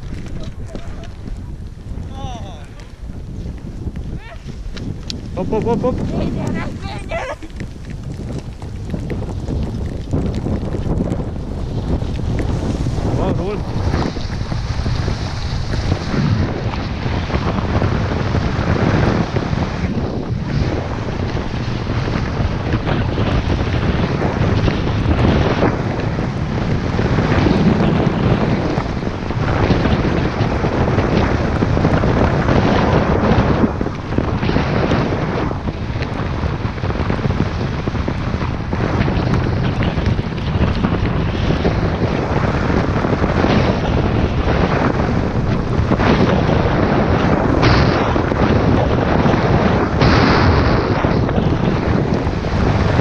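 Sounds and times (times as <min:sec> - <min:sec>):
skis scraping on snow: 0:00.0 - 0:53.0
wind rushing over microphone: 0:00.0 - 0:53.0.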